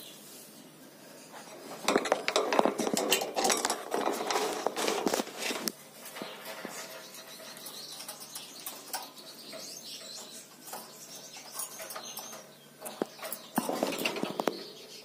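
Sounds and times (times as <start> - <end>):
claws clicking on wire cage: 1.8 - 14.6.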